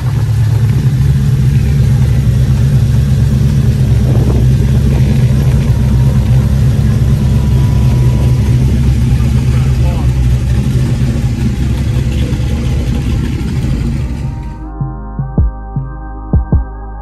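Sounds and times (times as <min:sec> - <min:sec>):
truck engine rumbling: 0:00.0 - 0:15.1.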